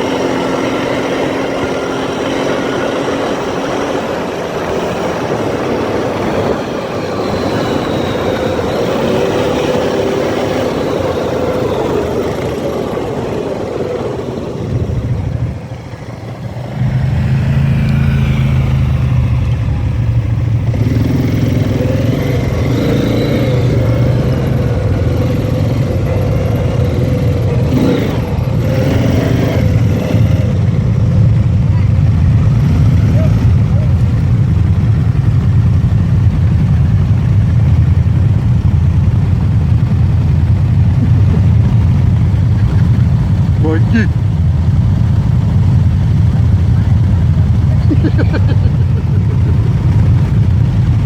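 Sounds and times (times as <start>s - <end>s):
atv engine running: 0.0s - 51.0s.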